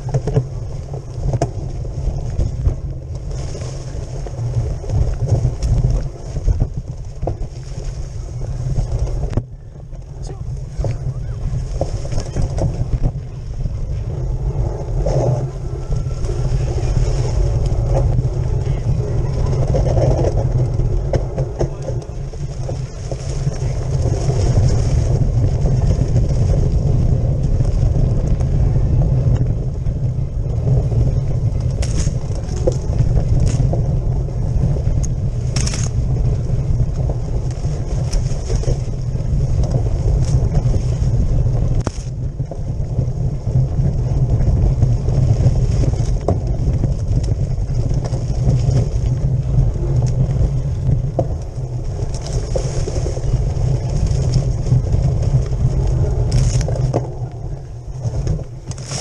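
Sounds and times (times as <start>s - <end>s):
bike clicks and rattles: 0.0s - 59.0s
wind and tyre rumble: 0.0s - 59.0s.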